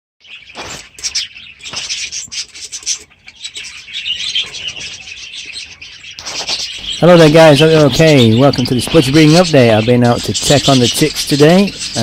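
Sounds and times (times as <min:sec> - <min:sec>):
budgies chattering: 0:00.2 - 0:12.0.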